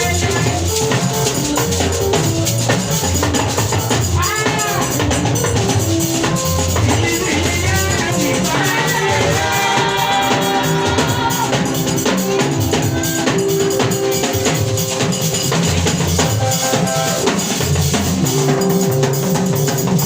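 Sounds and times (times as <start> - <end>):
church praise music: 0.0 - 20.0
drum kit beat: 0.0 - 20.0.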